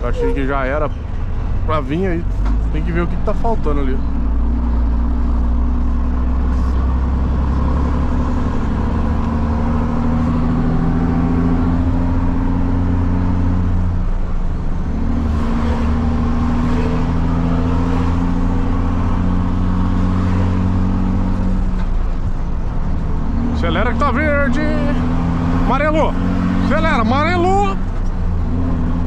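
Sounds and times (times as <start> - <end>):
diesel truck accelerating: 0.0 - 29.0.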